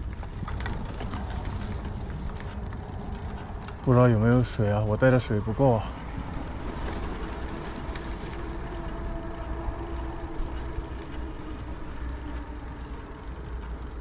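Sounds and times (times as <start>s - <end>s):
bicycle tyres rumbling on paving: 0.0s - 14.0s
faint steady hum: 0.0s - 14.0s.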